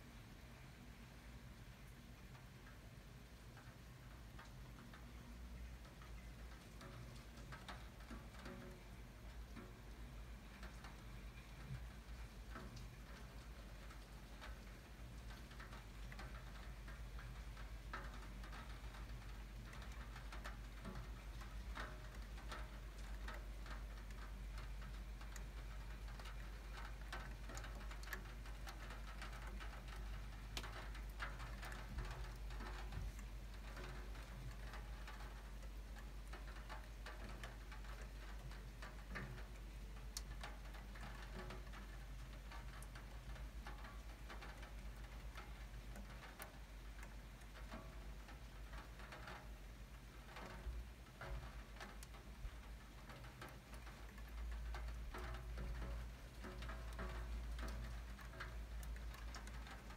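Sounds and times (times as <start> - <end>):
low steady hum: 0.0 - 59.9
raindrops dripping on a window: 0.0 - 59.9.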